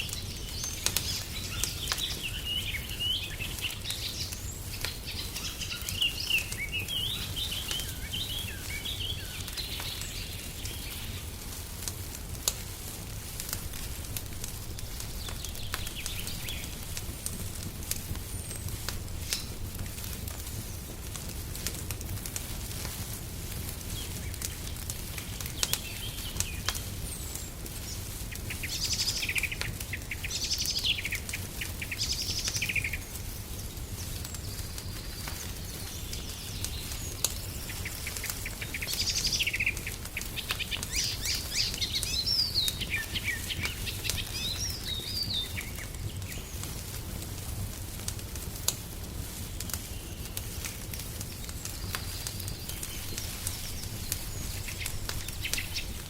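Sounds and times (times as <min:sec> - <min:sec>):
songbirds chirping: 0:00.0 - 0:56.0
wood fire crackling: 0:00.0 - 0:56.0.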